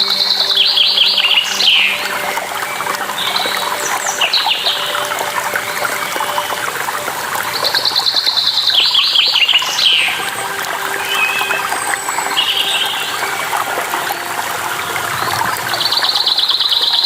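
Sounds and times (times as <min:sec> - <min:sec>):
running water: 0:00.0 - 0:17.0
songbirds chirping: 0:00.0 - 0:17.0.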